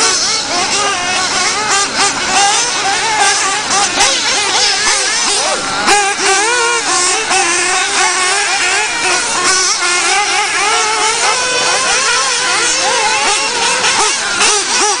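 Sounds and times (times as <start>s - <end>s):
remote control car engines buzzing: 0.0s - 15.0s.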